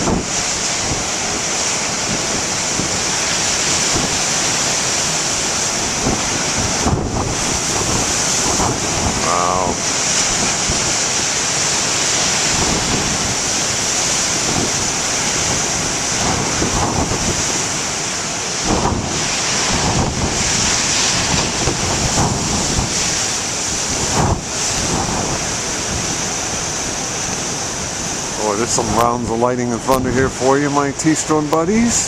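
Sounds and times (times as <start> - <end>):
ocean waves breaking: 0.0 - 32.0
wind buffeting microphone: 0.0 - 32.0.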